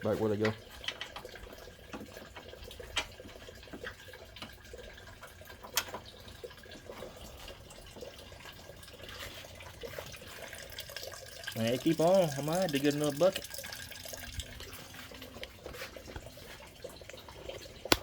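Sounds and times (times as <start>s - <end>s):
liquid dripping into a bucket: 0.0s - 18.0s.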